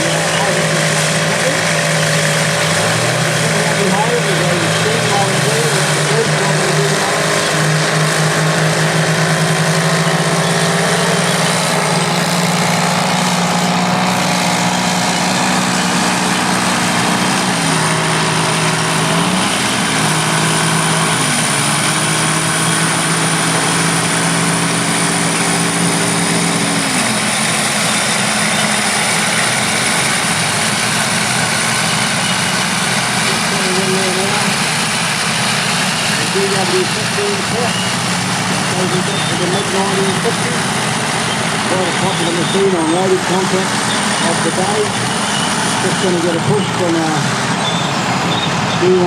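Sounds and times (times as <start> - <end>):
diesel earthmoving engines running: 0.0 - 49.0.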